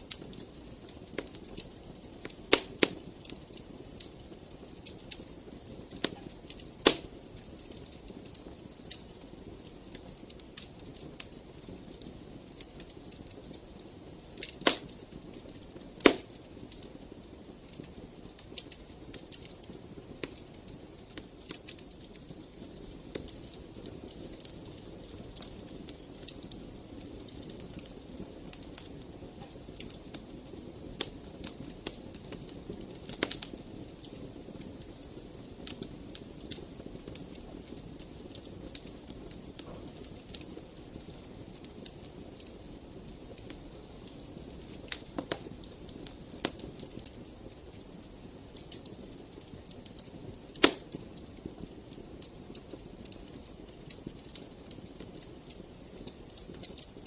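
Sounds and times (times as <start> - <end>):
low rush of flames: 0.0 - 57.0
wood fire pops and snaps: 0.0 - 57.0.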